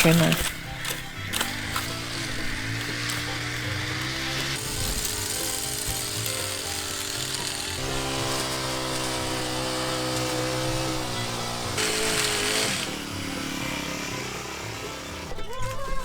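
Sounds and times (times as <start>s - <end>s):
background music with held notes: 0.0s - 16.0s
toy hedge trimmer buzzing: 0.0s - 16.0s.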